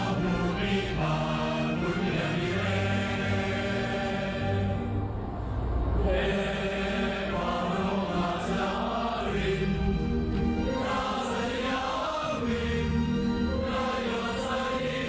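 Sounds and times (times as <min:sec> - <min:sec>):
choir singing held notes: 0:00.0 - 0:15.0
orchestra: 0:00.0 - 0:15.0.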